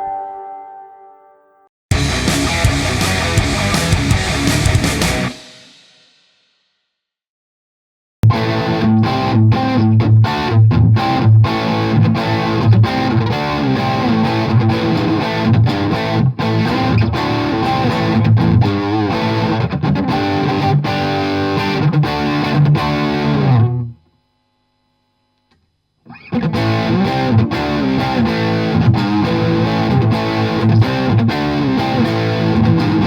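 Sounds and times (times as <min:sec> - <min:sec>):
distorted electric guitar chords: 0:01.9 - 0:05.8, 0:08.2 - 0:24.0, 0:26.1 - 0:33.0.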